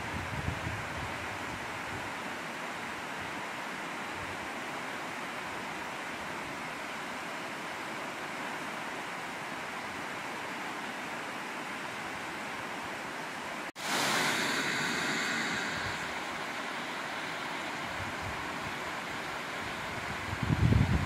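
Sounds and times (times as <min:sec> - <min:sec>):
water rushing down a dam: 0:00.2 - 0:21.0.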